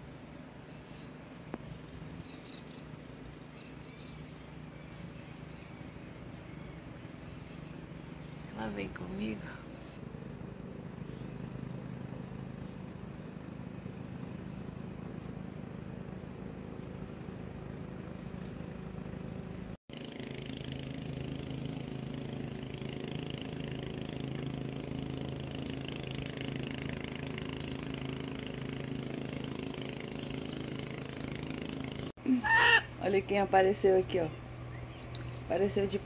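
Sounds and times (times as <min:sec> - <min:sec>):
small engine running: 0:00.0 - 0:32.2.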